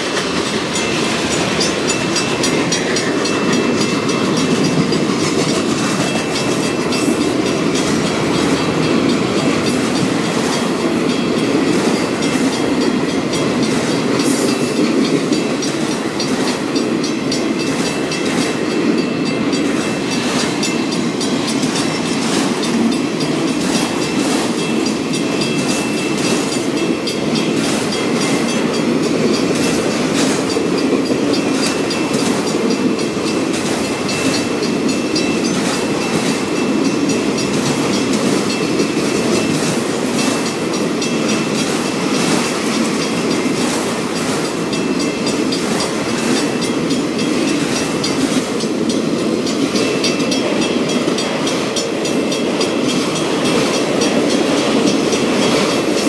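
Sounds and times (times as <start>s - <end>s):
freight train rumbling past: 0.0s - 56.0s
wheels clicking over rail joints: 0.0s - 56.0s.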